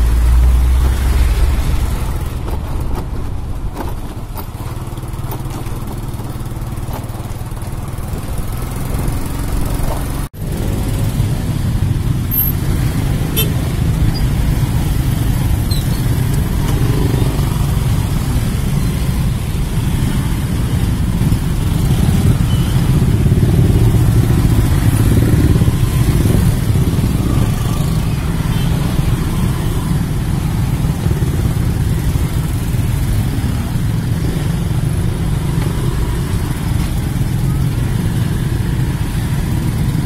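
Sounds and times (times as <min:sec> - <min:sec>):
scooter engines rumbling in traffic: 0:00.0 - 0:40.0.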